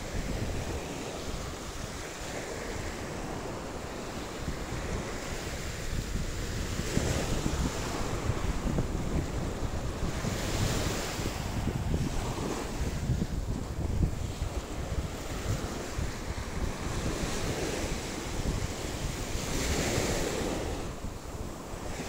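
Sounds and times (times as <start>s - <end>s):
sea surf washing onto beach: 0.0s - 22.0s
wind buffeting microphone: 0.0s - 22.0s.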